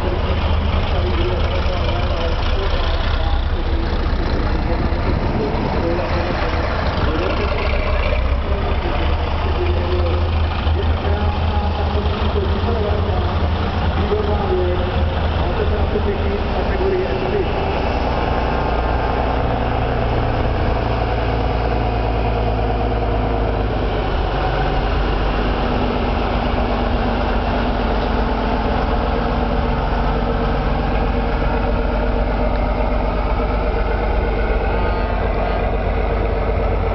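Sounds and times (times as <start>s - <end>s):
truck engine rumbling: 0.0s - 36.9s.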